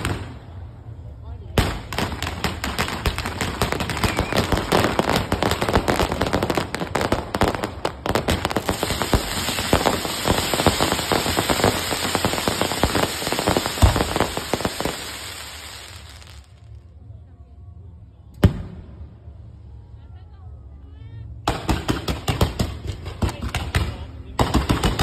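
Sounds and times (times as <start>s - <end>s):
fireworks crackling and popping: 0.0s - 17.0s, 21.5s - 25.0s.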